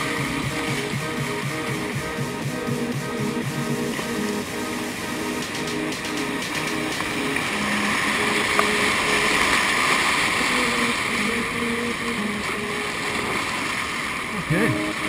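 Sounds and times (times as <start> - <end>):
whitewater rushing and churning: 0.0 - 15.0.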